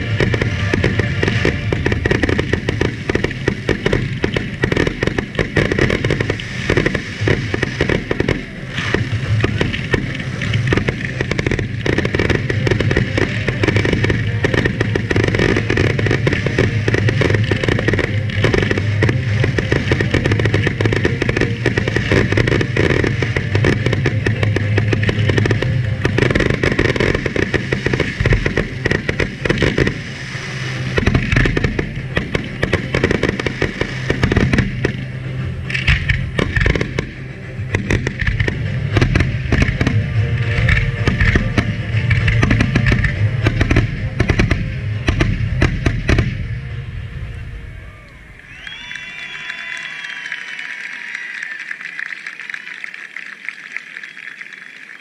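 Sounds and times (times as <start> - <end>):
fireworks bursting and crackling: 0.0 - 55.0.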